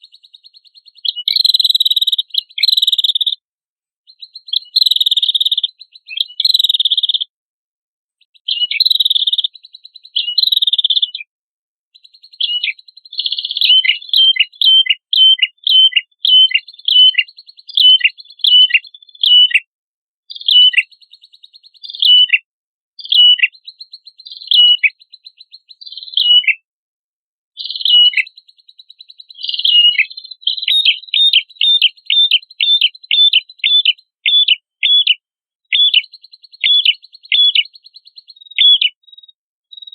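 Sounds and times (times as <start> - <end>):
small songbird singing: 0.0 - 3.4, 4.0 - 7.3, 8.1 - 11.3, 11.9 - 19.7, 20.3 - 26.7, 27.5 - 39.9.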